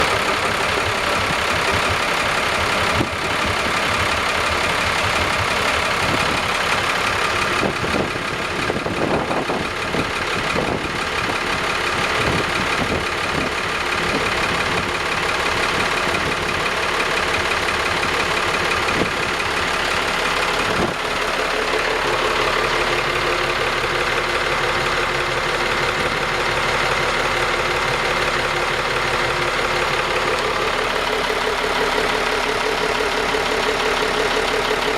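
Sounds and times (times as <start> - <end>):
boat engine idling: 0.0 - 34.9.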